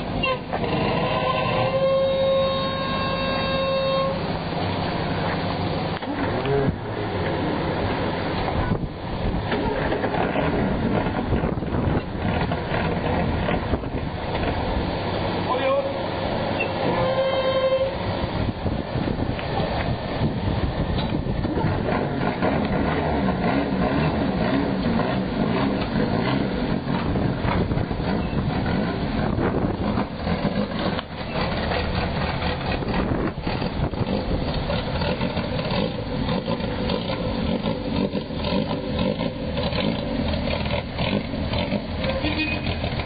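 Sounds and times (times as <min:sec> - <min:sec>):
car engines running slowly: 0:00.0 - 0:43.0.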